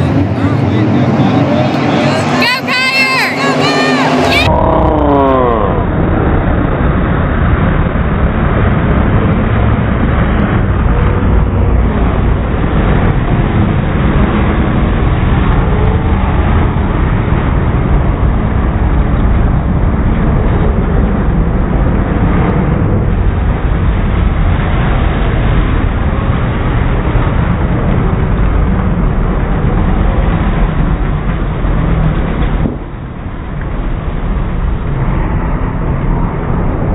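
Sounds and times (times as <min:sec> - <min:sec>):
race car engines droning: 0:00.0 - 0:36.9.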